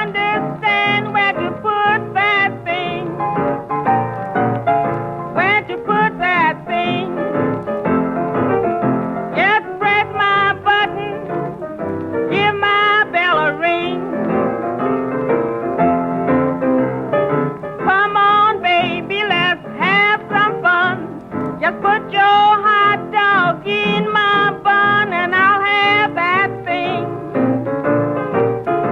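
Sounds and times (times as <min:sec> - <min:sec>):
old blues record with piano: 0:00.0 - 0:28.9.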